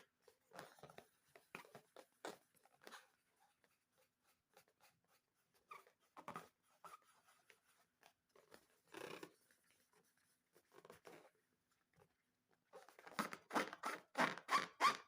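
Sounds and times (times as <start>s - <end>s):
faint handling rustles and squishes: 0.0s - 13.2s.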